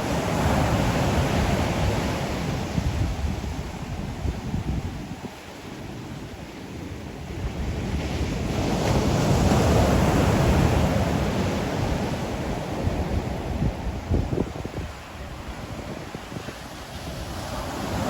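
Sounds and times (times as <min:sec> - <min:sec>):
ocean waves breaking: 0:00.0 - 0:04.4, 0:05.2 - 0:18.0
wind rumbling on microphone: 0:00.0 - 0:18.0.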